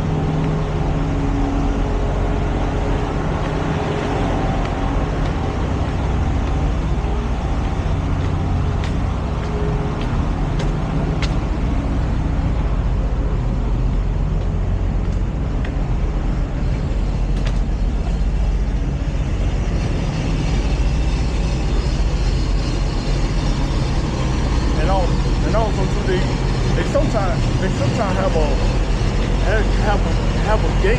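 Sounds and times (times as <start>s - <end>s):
traffic rumble: 0.0s - 30.9s.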